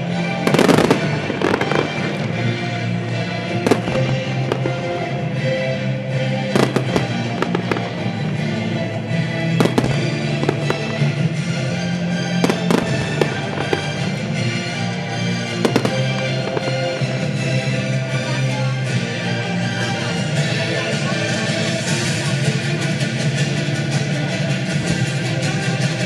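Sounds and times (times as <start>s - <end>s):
music playing: 0.0s - 26.0s.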